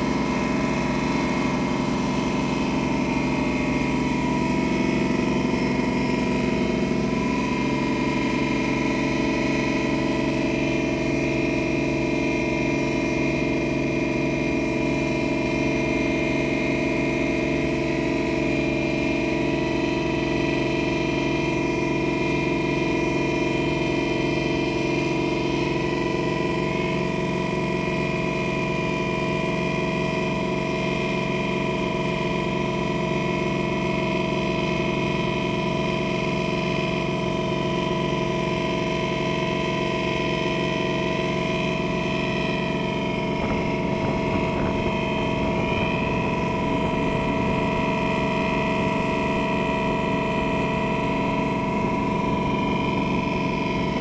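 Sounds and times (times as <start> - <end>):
motorboat engine drone: 0.0 - 54.0.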